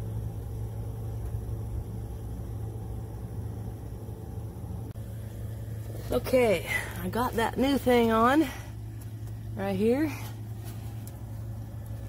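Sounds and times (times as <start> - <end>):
faint rumble: 0.0 - 12.0
low mechanical hum: 0.0 - 12.0.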